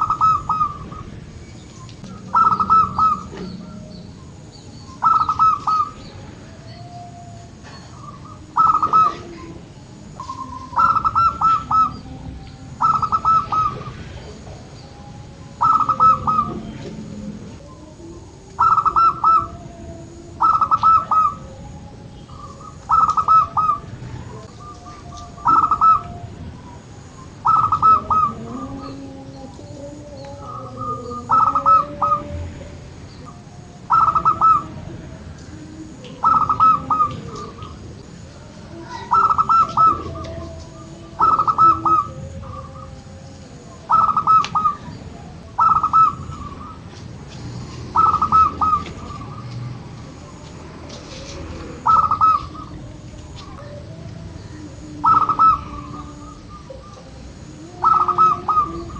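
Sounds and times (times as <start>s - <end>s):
dove cooing: 0.0s - 58.9s
faint low bird calls: 0.0s - 58.9s.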